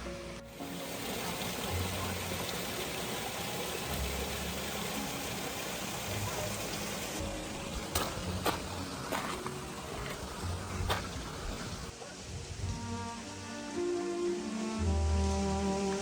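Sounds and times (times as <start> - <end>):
background music: 0.0 - 16.0
creek water rushing: 0.0 - 16.0.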